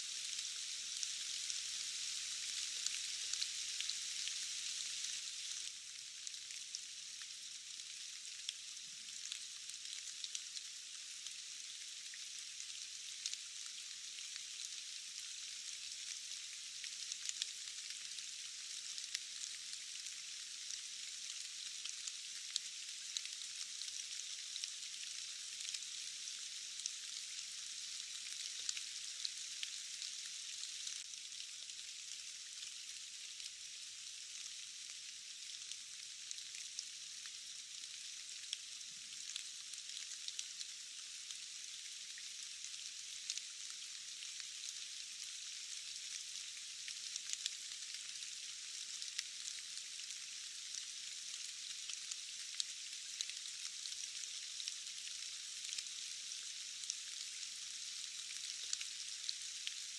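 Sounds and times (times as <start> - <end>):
rain hiss with patter of drops: 0.0 - 59.9.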